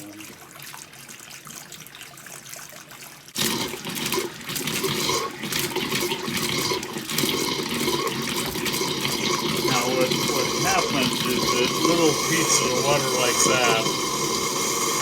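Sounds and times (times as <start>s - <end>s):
faint water trickle: 0.0s - 15.0s
water sputtering from tap: 0.0s - 15.0s.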